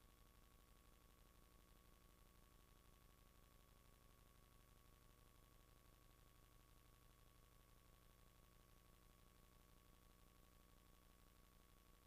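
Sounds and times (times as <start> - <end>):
faint steady hiss: 0.0 - 12.0
thin steady tone: 0.0 - 12.0.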